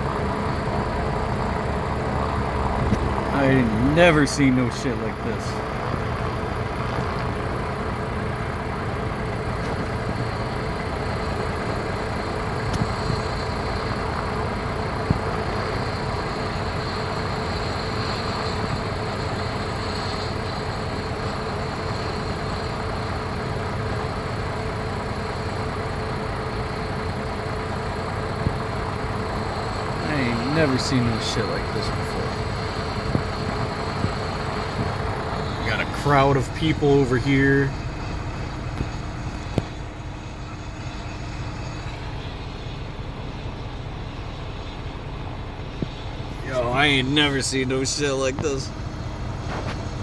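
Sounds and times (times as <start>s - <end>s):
faint high whine: 0.0s - 50.0s
helicopter engine running: 0.0s - 50.0s.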